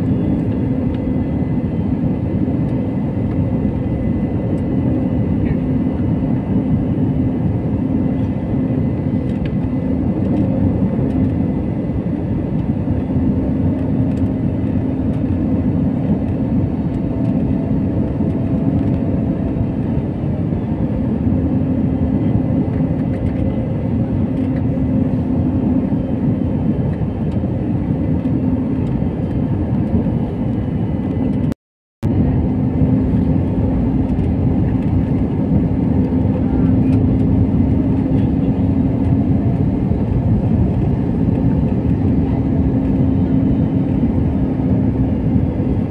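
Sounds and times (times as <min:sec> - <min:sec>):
airliner cabin engine noise: 0:00.0 - 0:45.9
constant low hum: 0:00.0 - 0:45.9.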